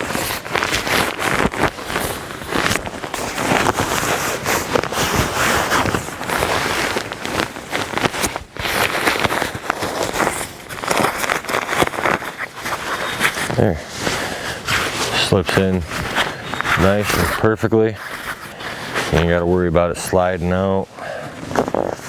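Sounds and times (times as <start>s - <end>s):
nylon fabric rustling: 0.0s - 22.0s.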